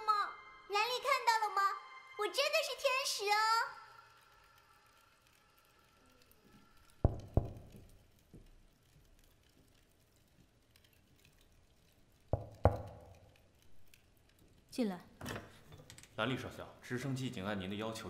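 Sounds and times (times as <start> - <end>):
fireplace crackling: 0.0 - 18.0.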